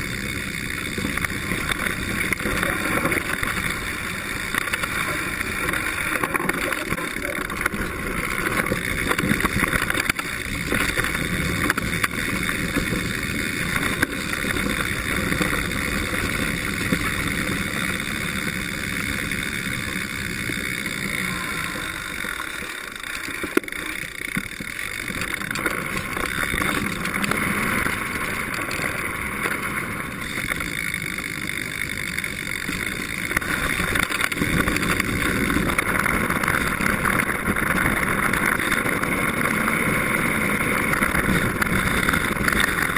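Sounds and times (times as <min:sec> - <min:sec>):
bike tyre and rattle noise: 0:00.0 - 0:42.9.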